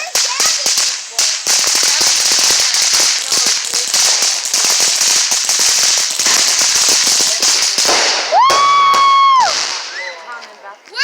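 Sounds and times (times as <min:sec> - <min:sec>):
fireworks hissing and crackling: 0:00.0 - 0:11.0.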